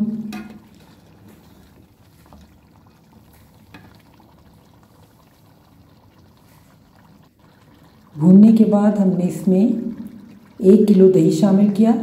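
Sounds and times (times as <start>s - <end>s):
food simmering and sizzling: 0.0s - 12.0s.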